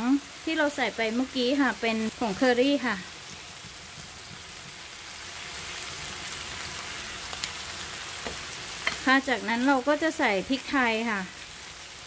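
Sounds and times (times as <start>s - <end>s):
onions and tomatoes sizzling in a pan: 0.0s - 12.0s.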